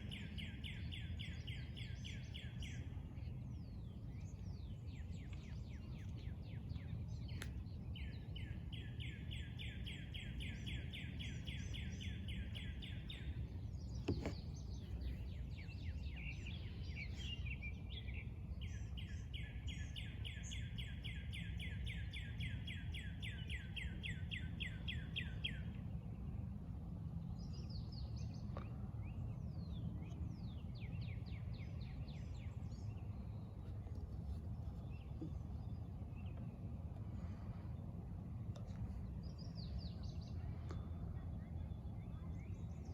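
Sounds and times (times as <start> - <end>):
low background rumble: 0.0 - 42.9.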